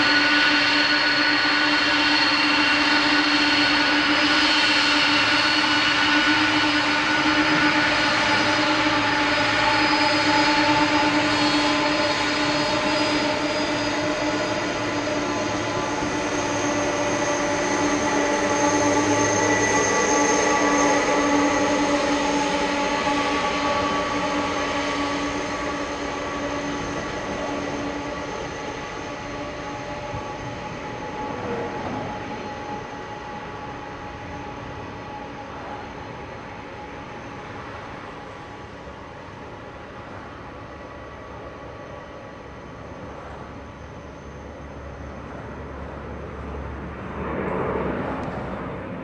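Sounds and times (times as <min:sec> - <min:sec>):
jet engines whining: 0:00.0 - 0:49.0.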